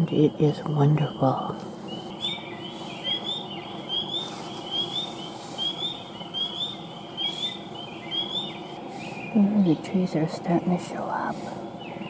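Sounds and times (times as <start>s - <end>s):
faint steady background noise: 0.0s - 12.0s
night animals chirping: 0.8s - 10.9s.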